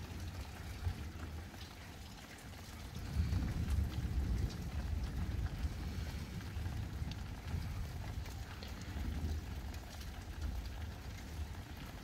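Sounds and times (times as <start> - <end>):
raindrop ticks: 0.0 - 12.0
steady rain: 0.0 - 12.0.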